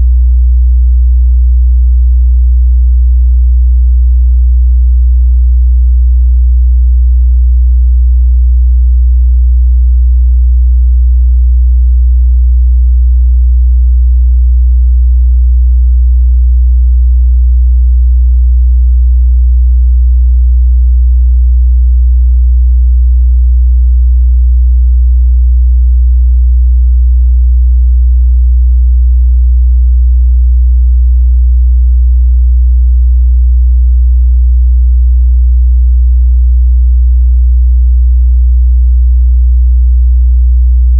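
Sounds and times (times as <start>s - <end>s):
low sine-wave test tone: 0.0s - 37.4s.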